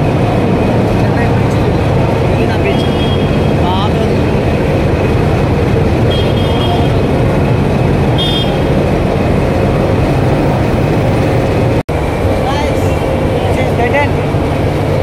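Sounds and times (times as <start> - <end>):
moving vehicle running noise: 0.0 - 15.0.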